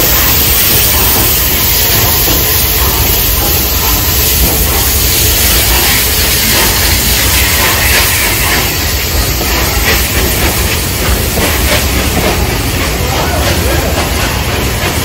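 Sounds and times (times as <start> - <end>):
steam hissing: 0.0 - 15.0
train wheels clicking over rail joints: 0.0 - 15.0.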